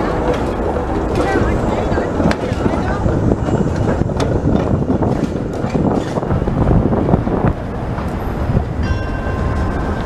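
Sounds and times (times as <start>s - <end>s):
streetcar rumbling past: 0.0s - 10.0s.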